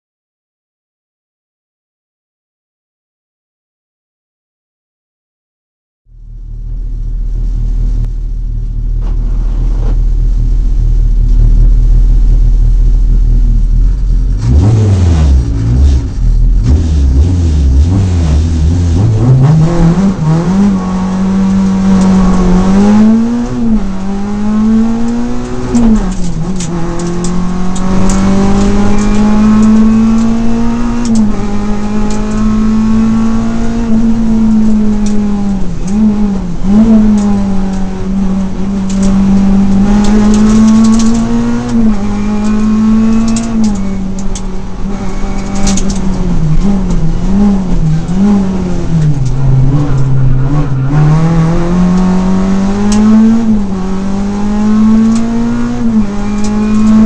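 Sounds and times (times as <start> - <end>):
car engine accelerating: 6.1 - 57.0.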